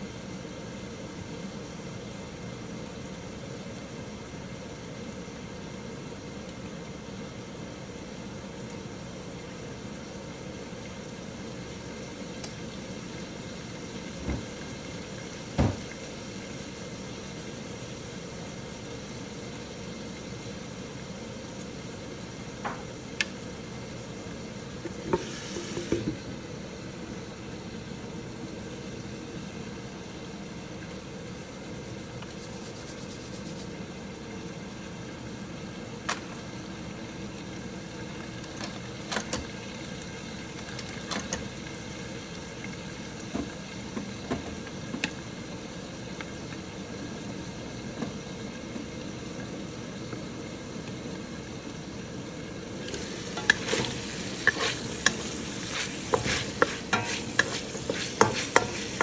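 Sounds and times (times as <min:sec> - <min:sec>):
bacon sizzling: 0:00.0 - 0:59.0.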